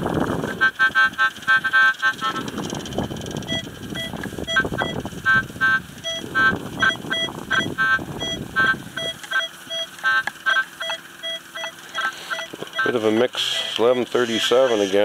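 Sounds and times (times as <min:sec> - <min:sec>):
metal detector beeps: 0:00.5 - 0:15.0.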